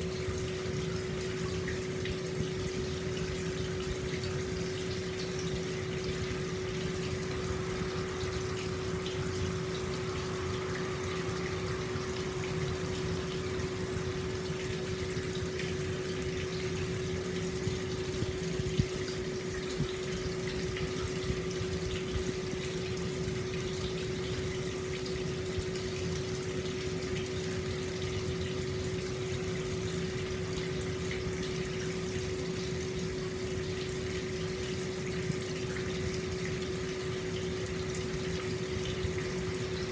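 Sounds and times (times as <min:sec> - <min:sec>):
faint water drips: 0:00.0 - 0:39.9.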